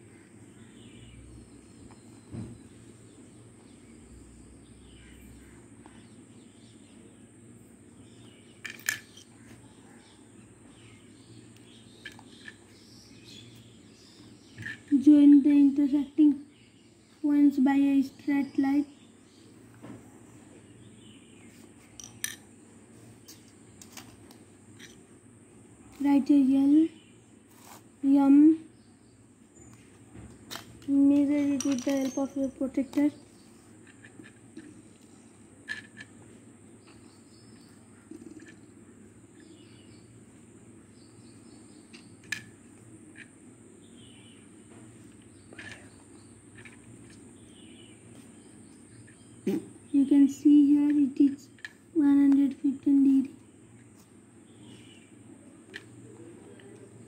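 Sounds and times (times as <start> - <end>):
low background noise: 0.0 - 57.0.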